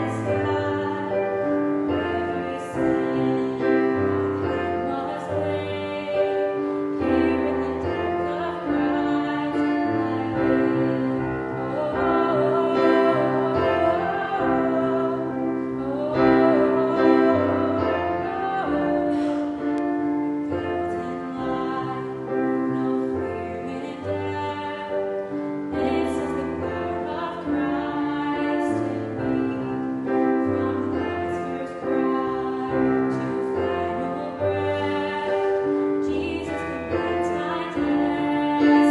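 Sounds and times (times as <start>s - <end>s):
person singing: 0.0s - 38.9s
piano accompaniment: 0.0s - 38.9s.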